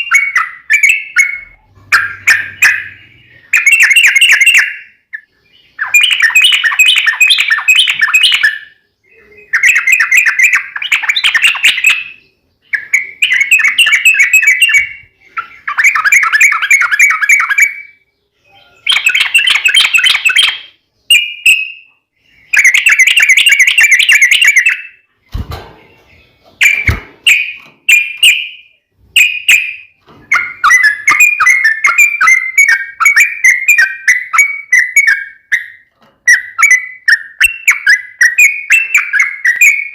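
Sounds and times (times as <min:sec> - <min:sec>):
bird singing bubbly phrases: 0:00.0 - 0:39.9.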